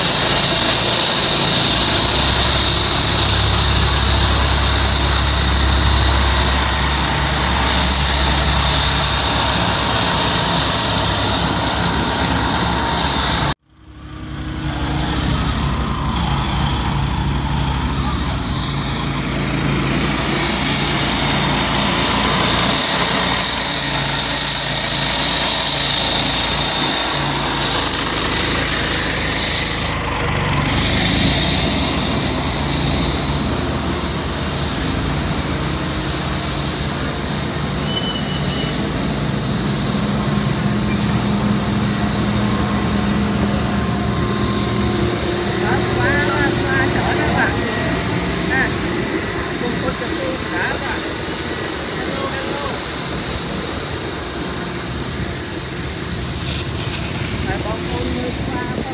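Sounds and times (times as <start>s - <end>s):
loud high hiss: 0.0s - 58.9s
road roller engines droning: 0.0s - 58.9s.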